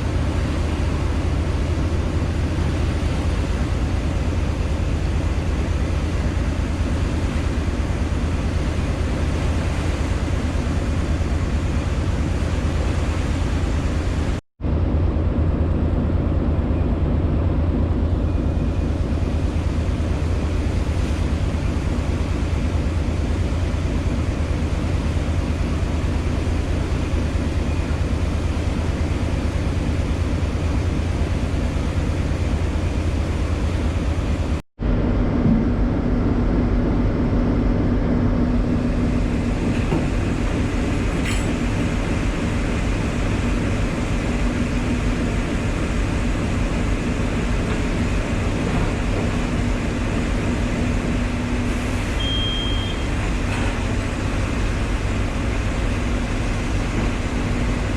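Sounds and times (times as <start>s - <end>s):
ferry engine droning: 0.0s - 57.9s.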